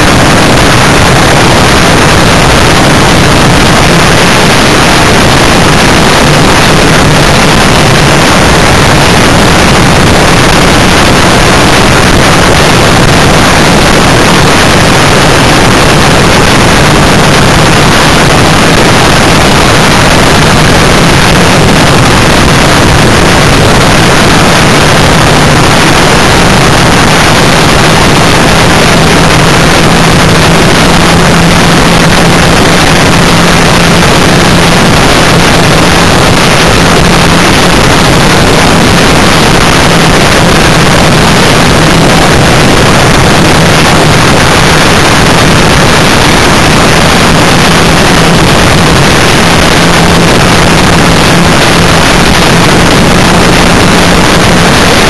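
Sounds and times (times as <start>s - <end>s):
engine hum: 0.0s - 55.0s
road noise: 0.0s - 55.0s
wind noise: 0.0s - 55.0s.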